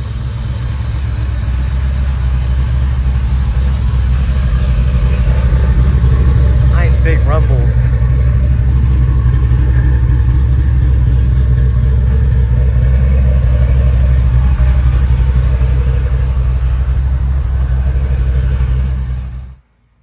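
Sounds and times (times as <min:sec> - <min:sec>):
car engine idling: 0:00.0 - 0:19.6.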